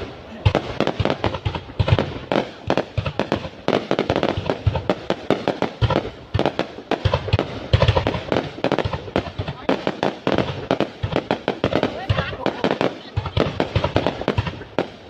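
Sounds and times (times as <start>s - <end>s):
deep firework booms: 0.0s - 15.0s
fireworks bangs and crackles: 0.0s - 15.0s.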